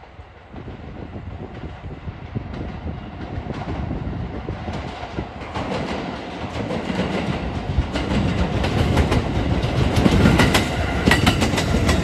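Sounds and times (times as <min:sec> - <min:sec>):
train rumbling on tracks: 0:00.0 - 0:12.0.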